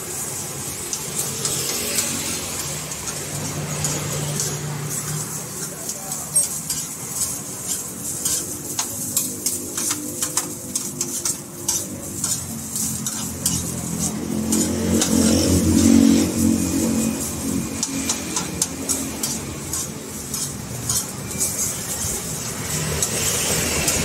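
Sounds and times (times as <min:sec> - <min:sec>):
meat sizzling: 0:00.0 - 0:24.0
metal tongs clinking in a pan: 0:00.2 - 0:24.0.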